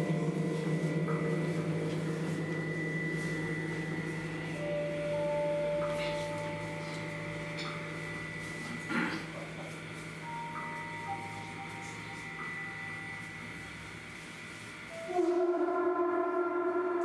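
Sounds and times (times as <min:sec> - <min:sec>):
deep singing bowl hum: 0:00.0 - 0:17.0.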